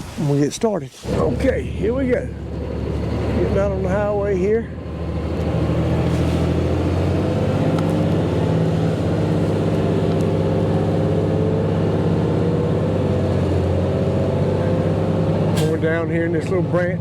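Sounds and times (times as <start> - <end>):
truck engine droning: 1.0 - 17.0.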